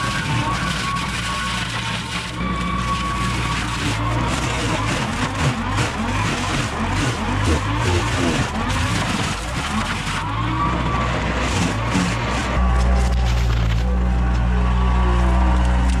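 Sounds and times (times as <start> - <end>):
brush mulcher shredding branches: 0.0 - 16.0
tractor engine under load: 0.0 - 16.0.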